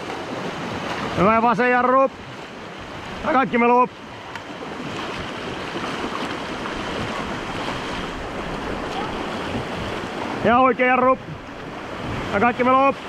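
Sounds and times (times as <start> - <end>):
paddles splashing: 0.0 - 13.0
whitewater roaring: 0.0 - 13.0.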